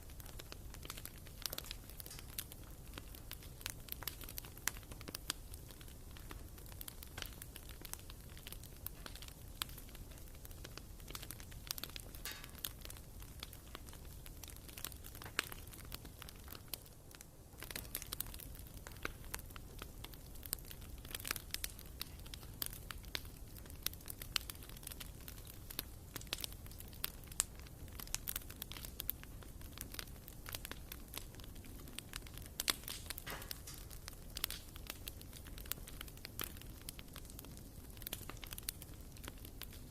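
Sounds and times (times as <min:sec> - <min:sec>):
low background noise: 0:00.0 - 0:39.9
wood fire crackling and popping: 0:00.0 - 0:39.9.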